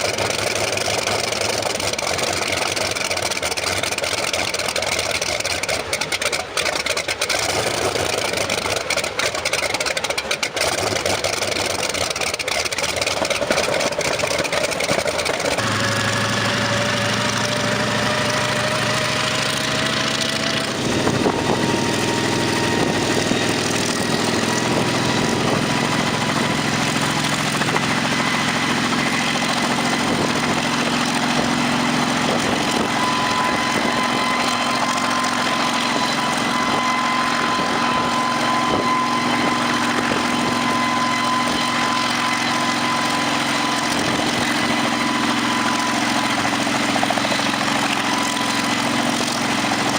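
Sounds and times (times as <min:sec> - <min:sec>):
helicopter engine whine: 0:00.0 - 0:49.9.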